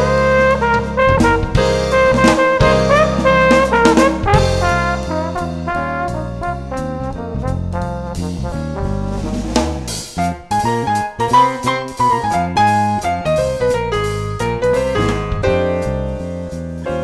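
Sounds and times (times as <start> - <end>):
bass line: 0.0 - 17.0
brass melody: 0.0 - 17.0.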